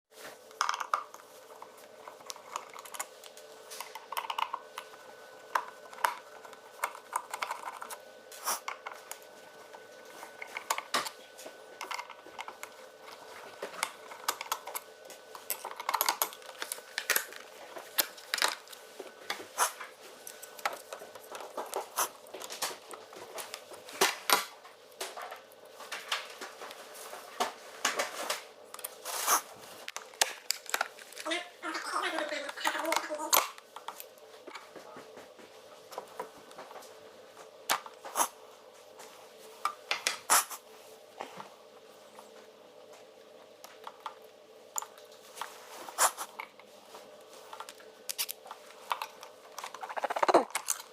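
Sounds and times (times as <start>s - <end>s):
faint steady hum: 0.2s - 50.9s.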